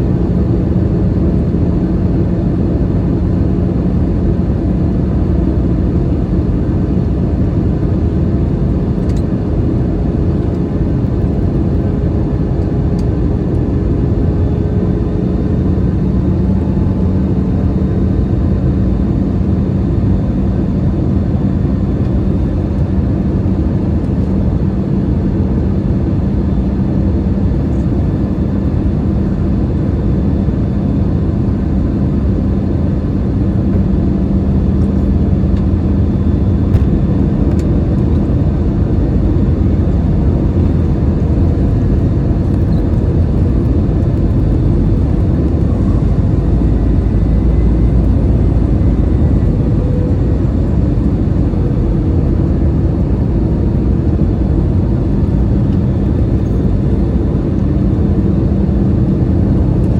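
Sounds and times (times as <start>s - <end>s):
airliner cabin rumble: 0.0s - 59.9s
low hum: 0.0s - 59.9s.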